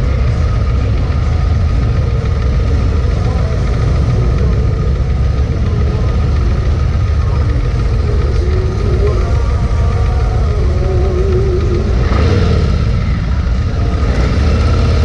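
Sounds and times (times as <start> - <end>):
motorcycle engine running at low revs: 0.0 - 15.0.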